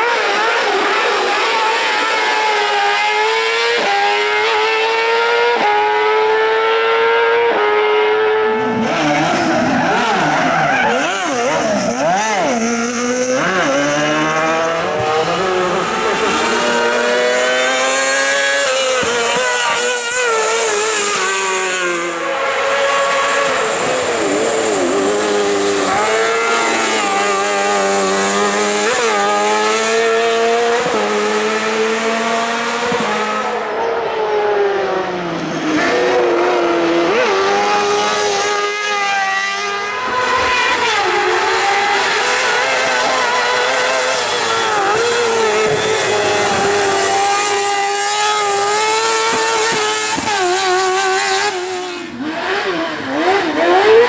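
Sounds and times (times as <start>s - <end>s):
buggy engine revving high: 0.0s - 54.0s.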